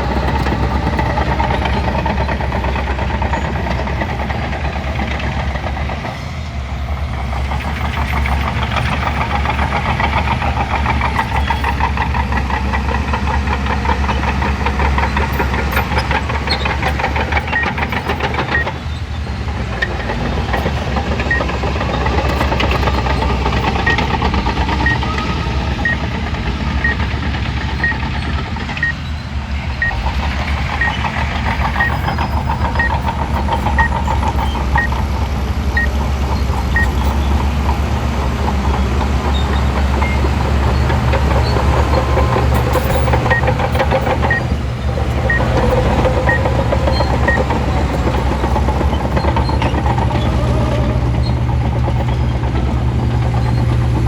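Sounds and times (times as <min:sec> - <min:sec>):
bulldozer diesel engine clattering: 0:00.0 - 0:54.0.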